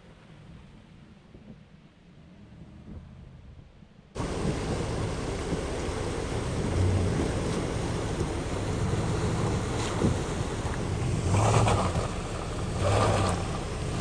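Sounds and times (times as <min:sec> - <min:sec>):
road noise: 0:02.3 - 0:14.0
vehicle engine hum: 0:02.4 - 0:14.0.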